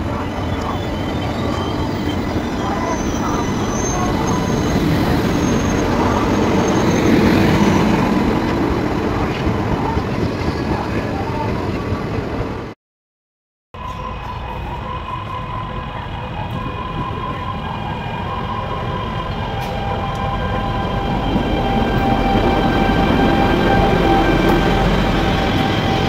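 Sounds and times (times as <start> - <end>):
locomotive wheels rumbling on rails: 0.0 - 12.8, 15.4 - 26.0.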